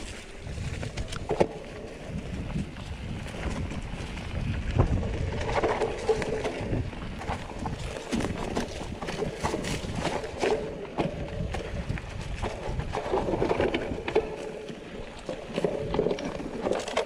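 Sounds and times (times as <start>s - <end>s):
mountain bike rattling on rocky trail: 0.0s - 17.0s
wind rumble on microphone: 0.0s - 17.0s.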